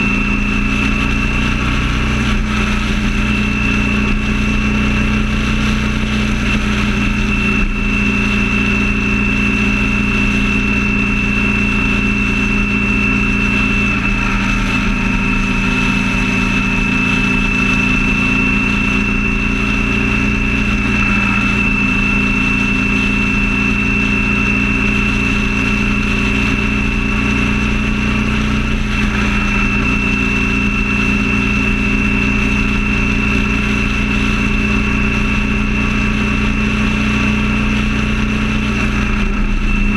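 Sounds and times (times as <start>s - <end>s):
high whine: 0.0s - 39.9s
road and wind noise: 0.0s - 39.9s
vehicle engine drone: 0.0s - 39.9s.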